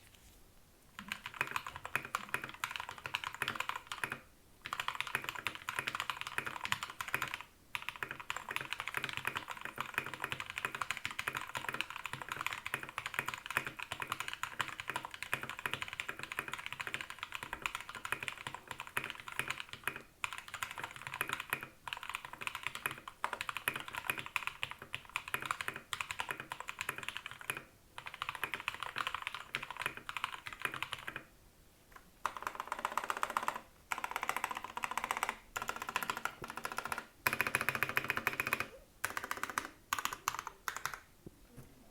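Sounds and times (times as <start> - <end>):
fast typing on mechanical keyboard: 1.0 - 31.3, 32.2 - 41.1.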